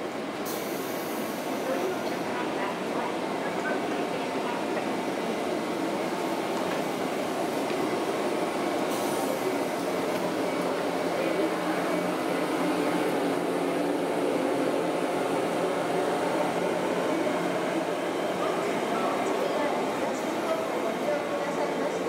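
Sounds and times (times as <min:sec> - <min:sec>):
electric trains humming: 0:00.0 - 0:22.0
station background noise: 0:00.0 - 0:22.0.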